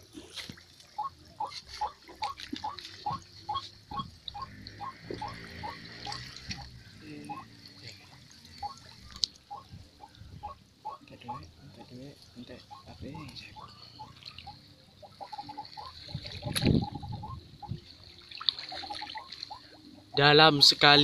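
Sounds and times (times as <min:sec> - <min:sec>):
water sloshing: 0:00.0 - 0:21.0.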